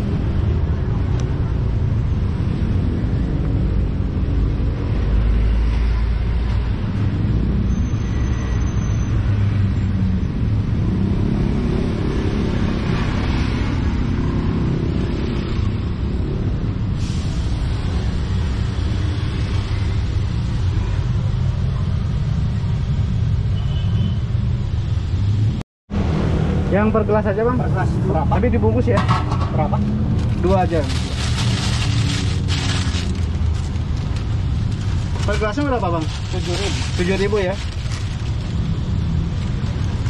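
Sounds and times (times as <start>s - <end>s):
cars and motorbikes passing: 0.0s - 40.0s.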